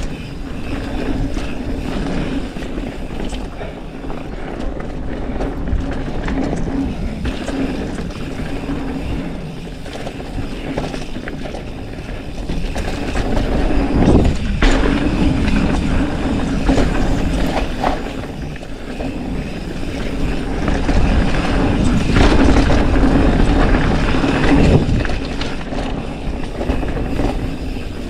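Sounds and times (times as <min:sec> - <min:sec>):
bike rattling and clicking: 0:00.0 - 0:28.0
tyres running on dirt: 0:00.0 - 0:28.0
wind rushing over microphone: 0:00.0 - 0:28.0.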